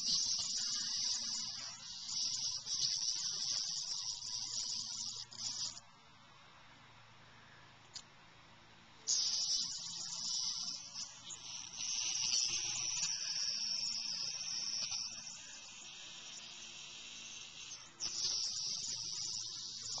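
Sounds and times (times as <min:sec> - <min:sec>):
cicada buzzing: 0:00.0 - 0:05.8, 0:09.1 - 0:20.0.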